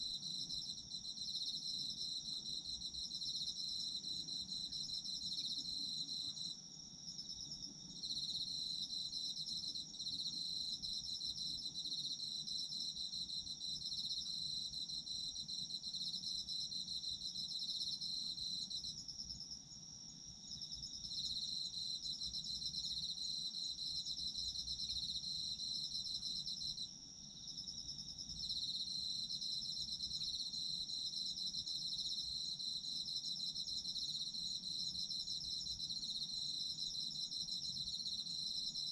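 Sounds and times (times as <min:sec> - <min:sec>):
lower pulsing cricket trill: 0:00.0 - 0:38.9.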